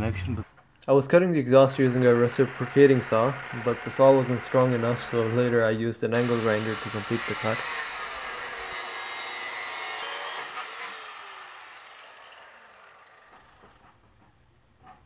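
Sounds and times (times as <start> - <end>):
angle grinder cutting steel pipe: 1.7 - 14.0.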